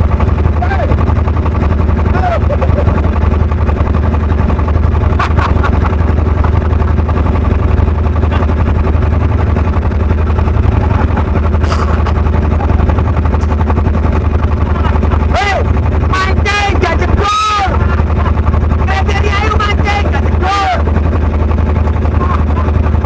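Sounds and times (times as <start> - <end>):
engine droning steadily: 0.0 - 23.0.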